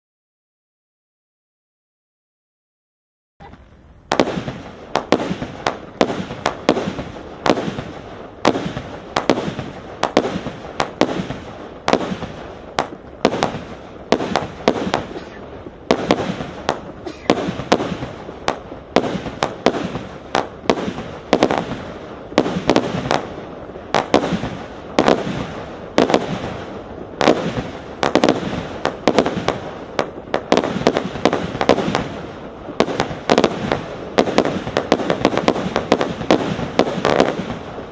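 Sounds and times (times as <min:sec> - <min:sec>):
fireworks banging: 0:03.4 - 0:37.9.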